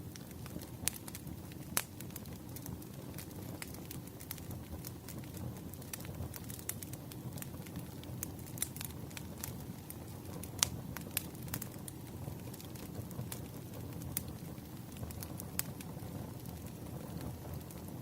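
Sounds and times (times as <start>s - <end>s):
burning wood crackling and popping: 0.0s - 18.0s
campfire flames rumbling: 0.0s - 18.0s.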